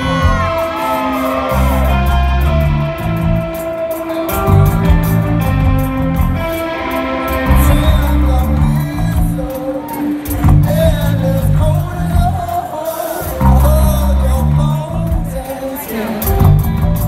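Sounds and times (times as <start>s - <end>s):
lead vocal singing: 0.0s - 5.3s, 6.4s - 17.0s
bass and drums: 0.0s - 17.0s
electric guitars strumming: 0.0s - 17.0s.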